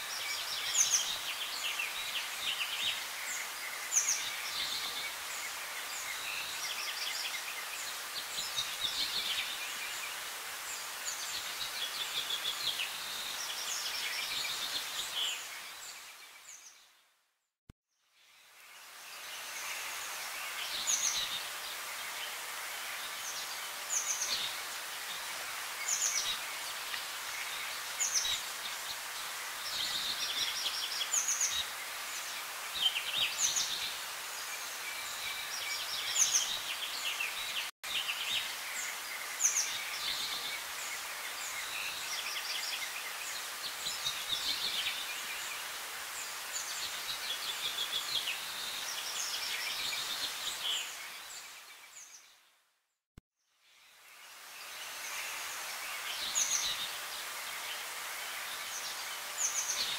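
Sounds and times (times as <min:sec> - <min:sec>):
steady outdoor hiss: 0:00.0 - 0:17.3, 0:18.0 - 0:52.8, 0:53.4 - 0:59.9.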